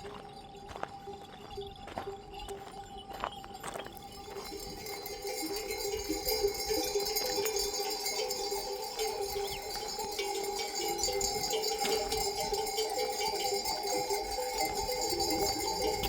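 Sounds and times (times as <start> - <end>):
livestock bells clinking: 0.0 - 16.0.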